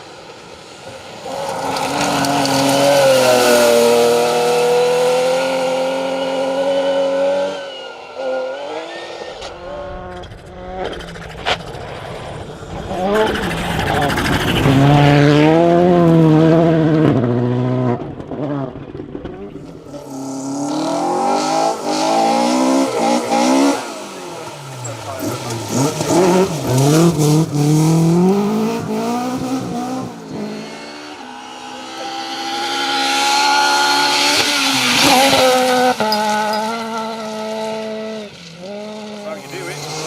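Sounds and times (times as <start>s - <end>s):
rally car engine revving: 0.9s - 40.0s.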